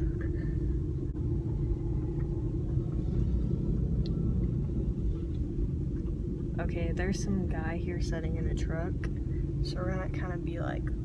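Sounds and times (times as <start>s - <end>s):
car interior rumble: 0.0s - 11.0s
faint steady hum: 0.0s - 11.0s.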